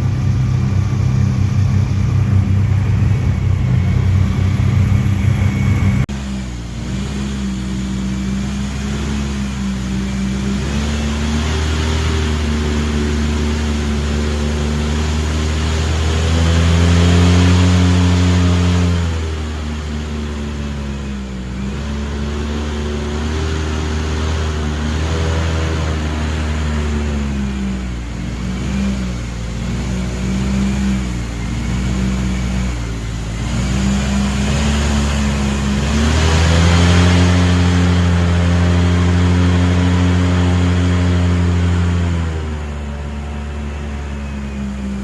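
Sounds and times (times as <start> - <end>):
airboat engine and propeller: 0.0 - 45.0.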